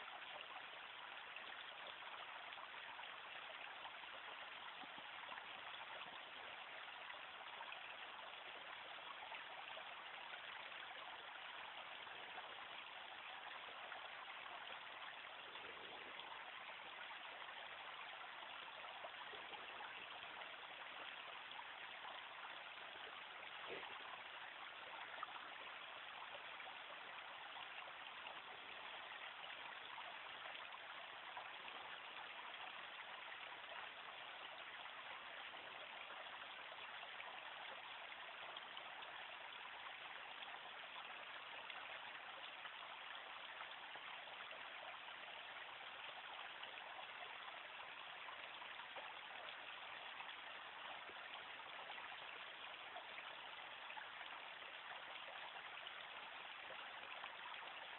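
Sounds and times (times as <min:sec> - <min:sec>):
creek babbling over stones: 0:00.0 - 0:57.9.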